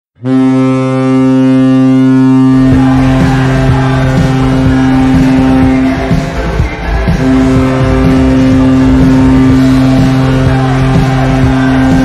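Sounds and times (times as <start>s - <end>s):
goal horn blast: 0.2s - 12.0s
song with driving beat: 2.3s - 12.0s.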